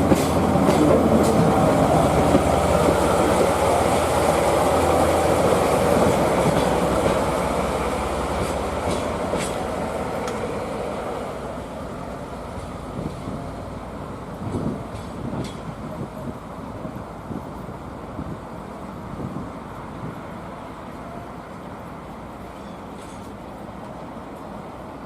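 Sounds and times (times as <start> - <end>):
train running on rails: 0.0 - 25.0.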